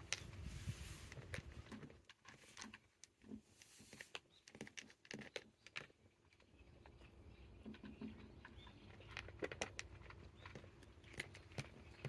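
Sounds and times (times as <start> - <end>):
kitten eating: 0.0 - 12.0.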